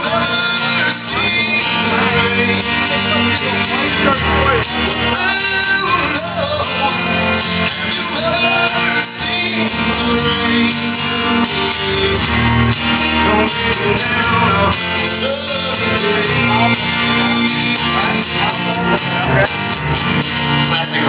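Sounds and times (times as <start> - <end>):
man singing: 0.0 - 19.8, 20.4 - 21.0
rock band playing live: 0.0 - 21.0.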